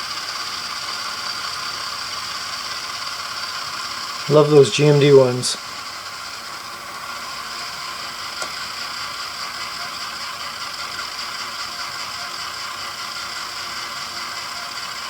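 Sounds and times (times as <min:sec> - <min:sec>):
model locomotive motors whirring: 0:00.0 - 0:15.0.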